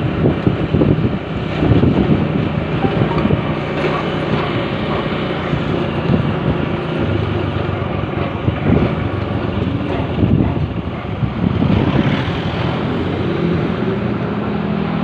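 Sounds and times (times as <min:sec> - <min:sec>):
road and wind noise: 0:00.0 - 0:15.0
vehicle engine running: 0:00.0 - 0:15.0.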